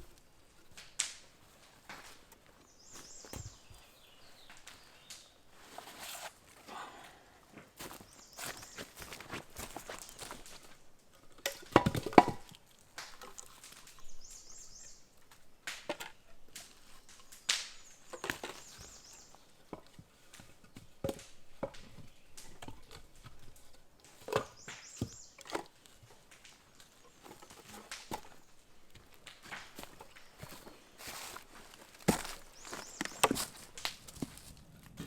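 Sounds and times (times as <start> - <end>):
old wood being broken up: 0.0 - 6.4, 7.8 - 35.0.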